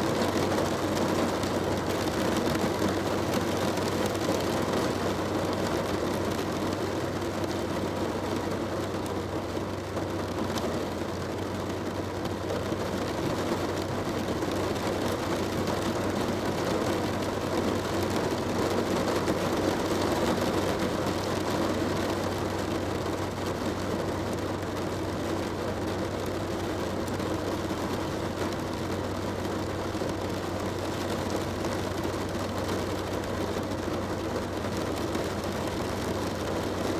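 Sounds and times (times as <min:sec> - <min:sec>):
heavy rain on a car roof: 0:00.0 - 0:36.9.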